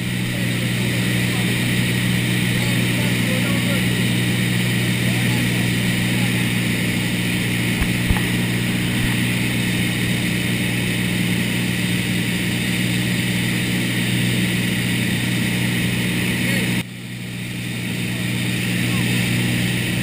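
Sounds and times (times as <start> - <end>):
propeller airplane engine droning: 0.0 - 20.0.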